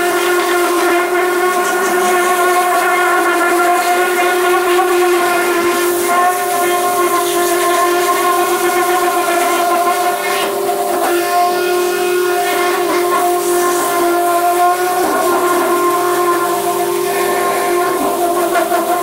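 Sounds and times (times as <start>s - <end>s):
pressure washer whine: 0.0s - 19.0s
water jet hissing on steel: 0.0s - 19.0s.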